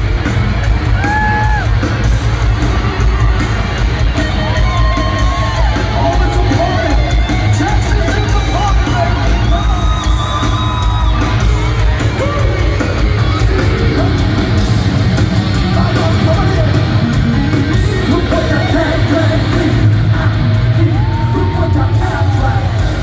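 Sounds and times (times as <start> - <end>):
drums: 0.0 - 23.0
electric guitar: 0.0 - 23.0.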